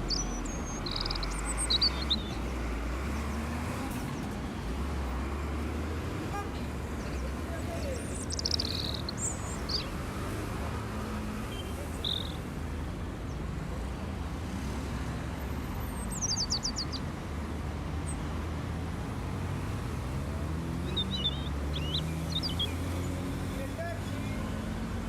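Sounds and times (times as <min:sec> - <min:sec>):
birds chirping: 0:00.0 - 0:12.6, 0:15.3 - 0:18.8, 0:19.4 - 0:25.0
distant traffic rumble: 0:00.0 - 0:25.0.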